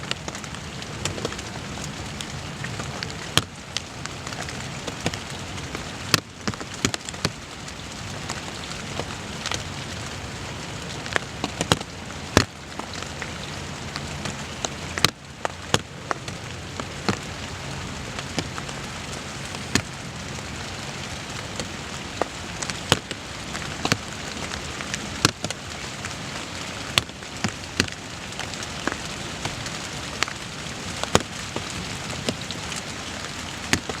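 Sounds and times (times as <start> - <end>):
steady rain hissing: 0.0 - 34.0.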